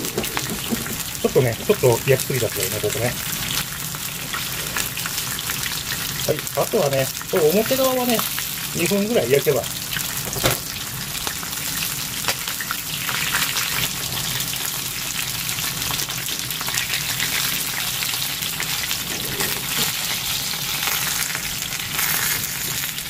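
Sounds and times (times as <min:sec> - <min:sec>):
chicken sizzling in frying pan: 0:00.0 - 0:23.0.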